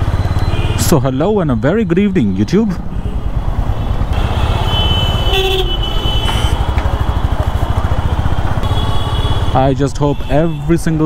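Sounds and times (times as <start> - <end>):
motorcycle engine running: 0.0 - 11.0
vehicle horns tooting: 0.4 - 7.6, 8.6 - 11.0.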